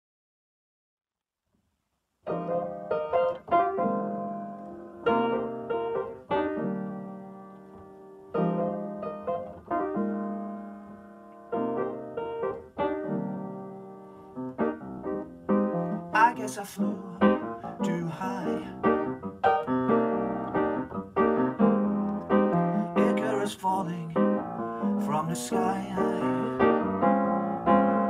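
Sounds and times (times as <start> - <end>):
upright piano playing slow chords: 2.2 - 28.0.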